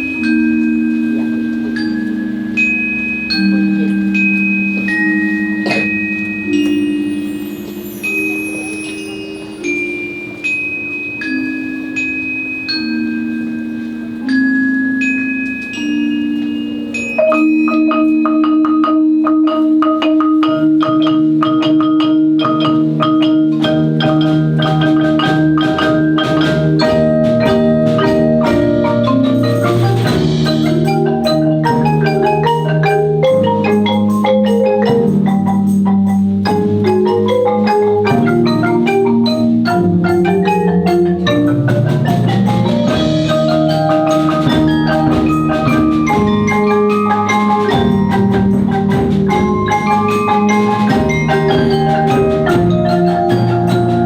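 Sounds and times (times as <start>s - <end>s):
glockenspiel notes: 0.0s - 54.0s
marimba notes: 0.0s - 54.0s.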